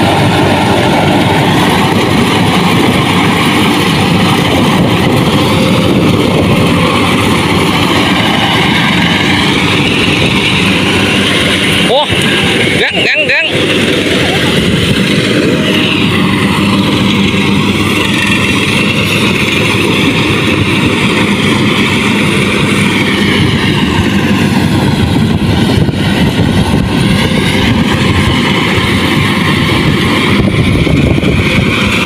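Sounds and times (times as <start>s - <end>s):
harvester engine running: 0.0s - 32.0s.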